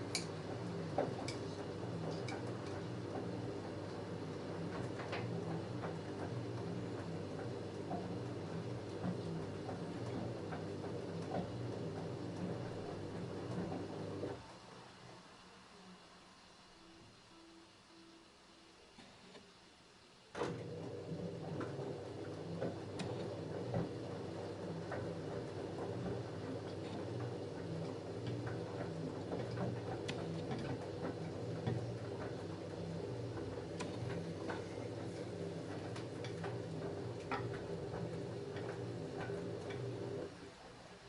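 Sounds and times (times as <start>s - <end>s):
washing machine motor hum: 0.0s - 17.8s, 20.2s - 41.0s.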